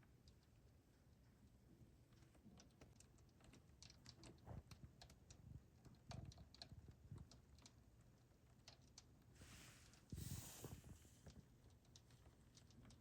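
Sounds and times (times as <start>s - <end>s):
faint clicks and taps: 0.0s - 13.0s.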